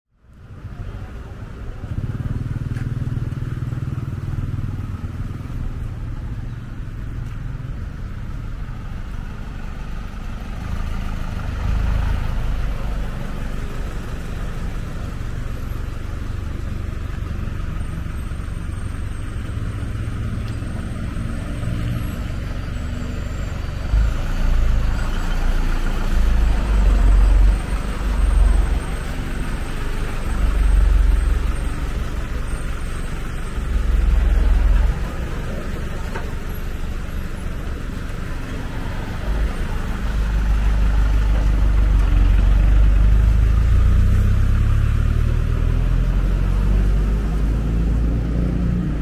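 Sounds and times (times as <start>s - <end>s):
vehicles passing on busy road: 0.1s - 49.0s.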